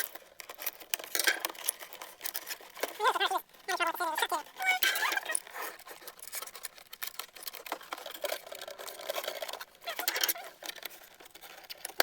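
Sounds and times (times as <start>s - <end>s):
hands handling plastic pieces: 0.0s - 12.0s
packaging rustling: 0.0s - 12.0s.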